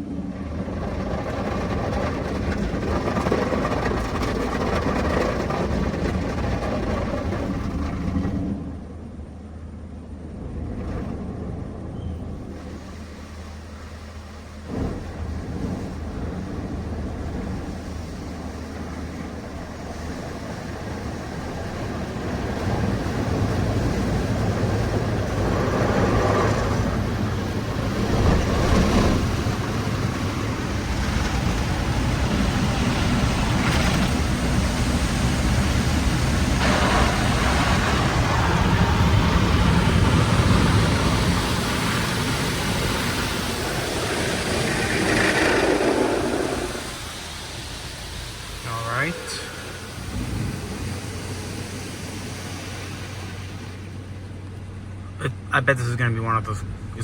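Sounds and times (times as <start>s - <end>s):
car wash water spray and brushes: 0.0s - 56.0s.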